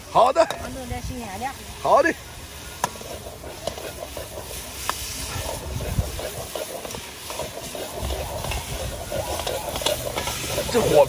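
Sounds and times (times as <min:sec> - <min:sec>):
stir-fry sizzling in a wok: 0:00.0 - 0:11.0
low rumble of stove flame: 0:00.6 - 0:11.0.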